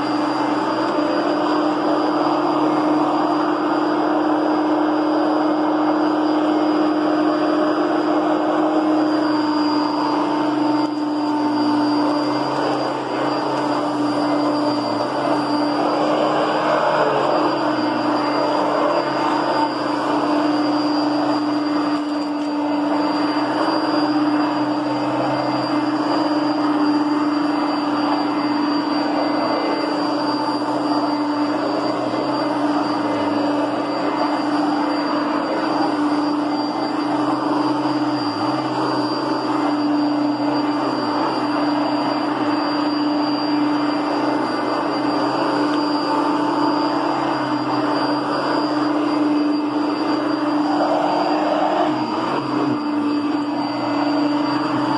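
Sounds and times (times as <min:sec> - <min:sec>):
vacuum cleaner motor running: 0:00.0 - 0:54.9.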